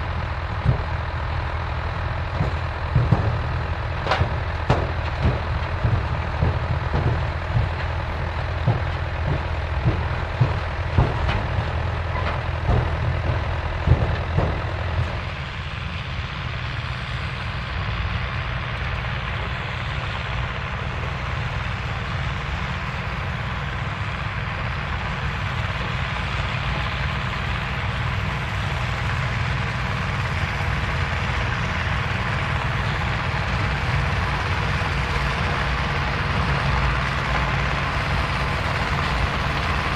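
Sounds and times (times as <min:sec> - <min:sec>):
rushing machine noise: 0:00.0 - 0:39.9
tractor engines droning: 0:00.0 - 0:39.9.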